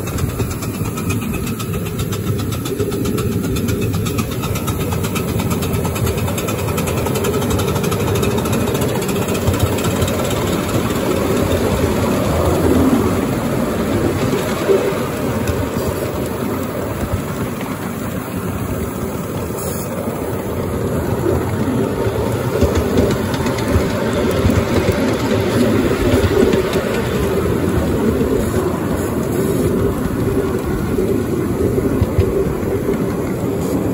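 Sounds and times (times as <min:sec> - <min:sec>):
model steam engine rumbling: 0:00.0 - 0:33.9.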